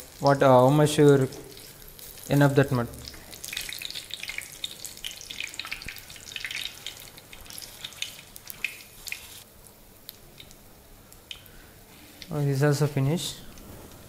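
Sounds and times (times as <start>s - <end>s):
deep-frying sizzle and pops: 0.0s - 11.6s.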